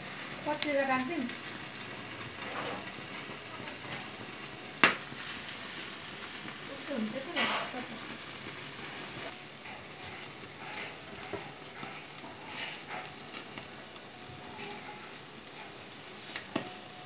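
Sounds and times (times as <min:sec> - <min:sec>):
chicken sizzling over flame: 0:00.0 - 0:17.0.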